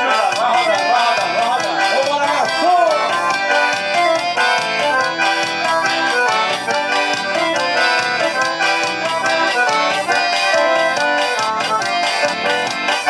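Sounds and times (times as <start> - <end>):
accordion melody: 0.0 - 13.0
quick percussion beat: 0.0 - 13.0.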